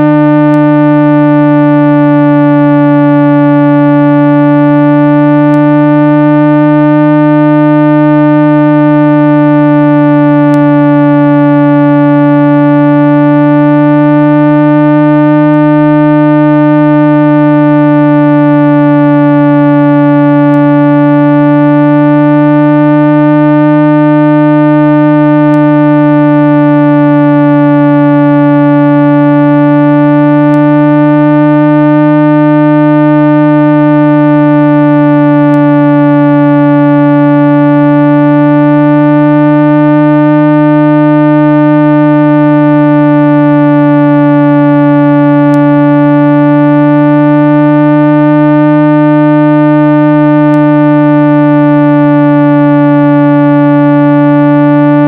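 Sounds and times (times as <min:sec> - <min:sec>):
electronic speaker-cleaning tone: 0:00.0 - 0:55.0.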